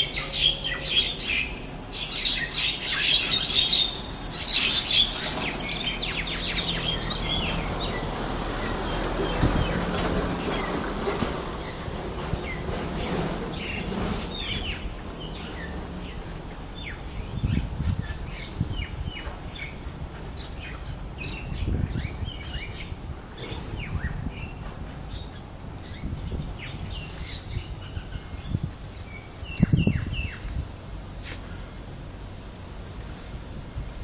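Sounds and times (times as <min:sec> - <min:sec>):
small birds chirping: 0:00.0 - 0:10.8, 0:11.4 - 0:31.8.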